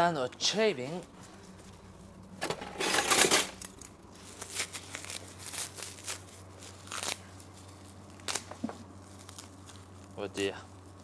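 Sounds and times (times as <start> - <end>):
plastic wrapping crinkling: 0.9 - 11.0.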